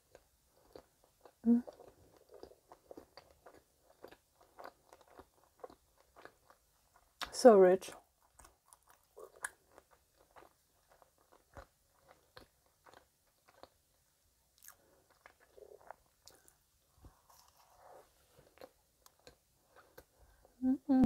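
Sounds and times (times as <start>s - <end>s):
close-miked chewing: 0.0s - 7.3s, 7.9s - 13.9s, 14.5s - 20.6s.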